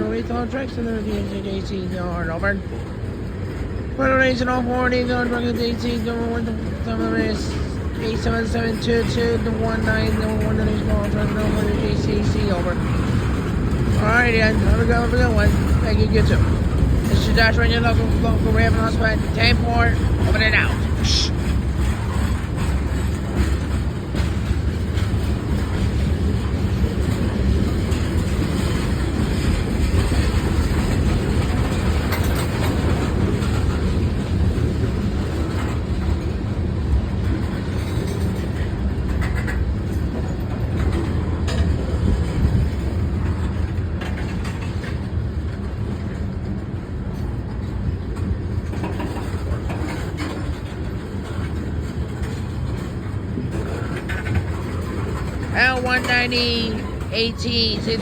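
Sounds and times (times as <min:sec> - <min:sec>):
train wheels rumbling on rail: 0:00.0 - 0:58.0
wheels clacking on rail: 0:00.0 - 0:58.0.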